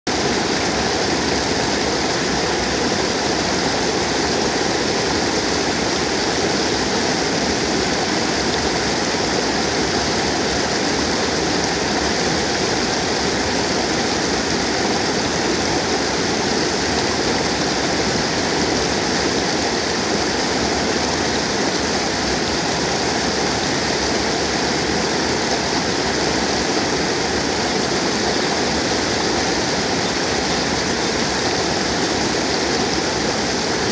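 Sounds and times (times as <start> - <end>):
floodwater rushing over a drop: 0.1 - 33.9.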